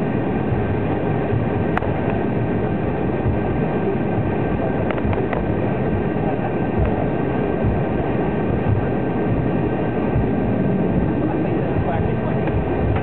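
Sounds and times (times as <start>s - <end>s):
faint steady whine: 0.0s - 13.0s
jet engines at taxi power: 0.0s - 13.0s
wheels rumbling while taxiing: 0.0s - 13.0s.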